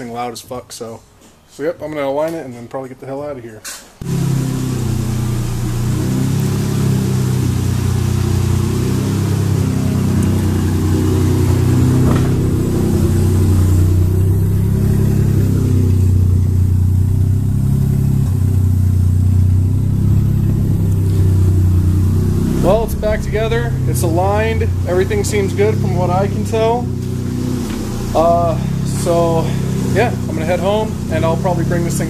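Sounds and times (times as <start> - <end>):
car engine idling loudly: 4.0 - 32.0.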